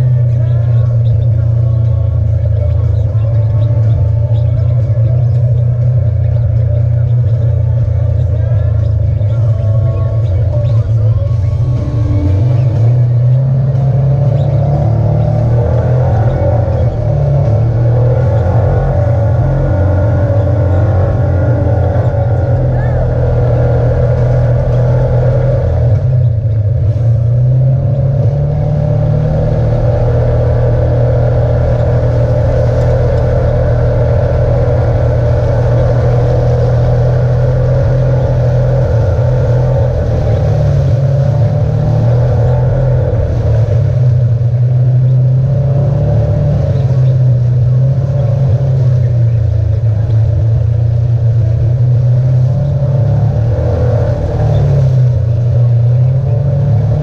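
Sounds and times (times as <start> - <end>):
off-road vehicle engine droning: 0.0 - 57.0.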